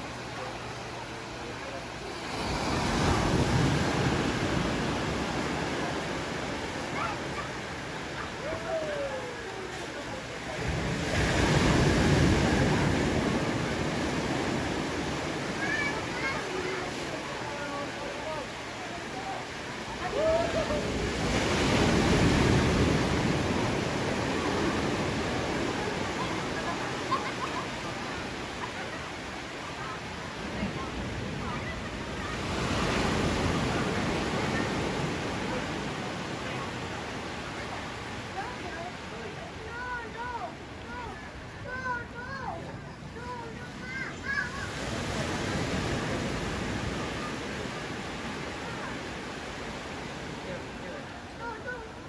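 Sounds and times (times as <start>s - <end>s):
waves breaking on shore: 0.0s - 52.0s.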